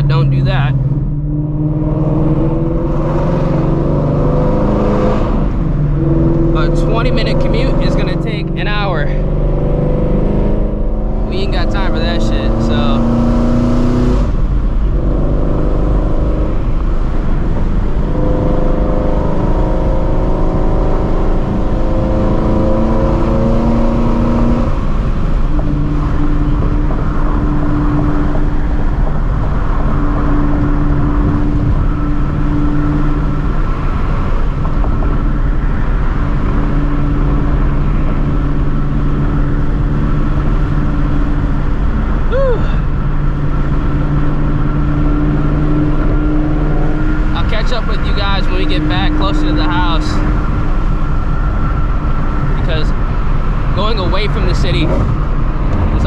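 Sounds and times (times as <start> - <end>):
loud car engine cruising: 0.0 - 56.0.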